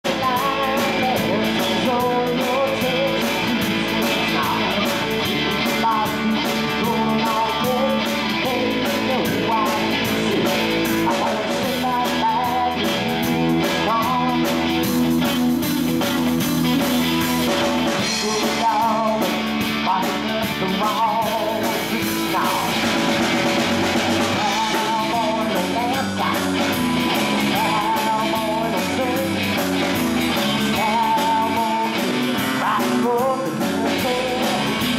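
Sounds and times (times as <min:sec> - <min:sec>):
drum kit: 0:00.0 - 0:34.9
electric bass: 0:00.0 - 0:34.9
electric guitar: 0:00.0 - 0:34.9
person singing: 0:00.0 - 0:34.9.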